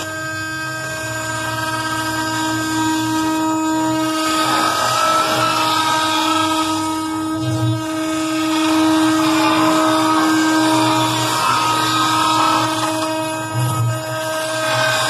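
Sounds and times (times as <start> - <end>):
router bit cutting wood: 0.0 - 15.0
router spindle whining: 0.0 - 15.0.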